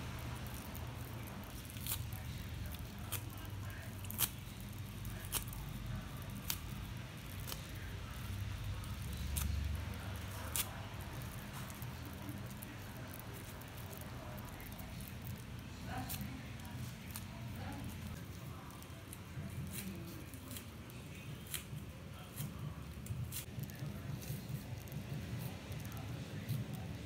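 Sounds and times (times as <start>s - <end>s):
comb cells crackling with clicks: 0.0s - 27.0s
low steady hum: 0.0s - 27.0s.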